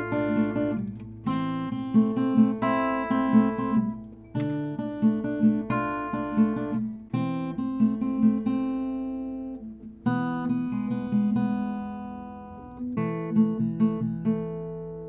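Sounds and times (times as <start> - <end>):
acoustic guitar playing slowly: 0.0 - 15.0.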